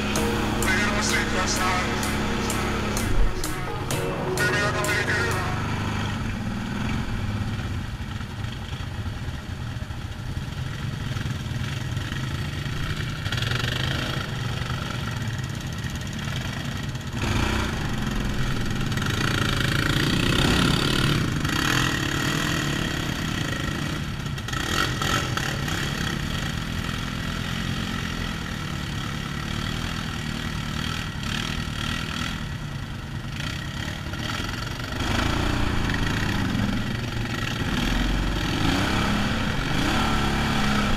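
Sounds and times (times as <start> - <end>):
quad bike engine revving: 0.0 - 3.2, 5.4 - 40.9
other quad engines: 0.0 - 40.9.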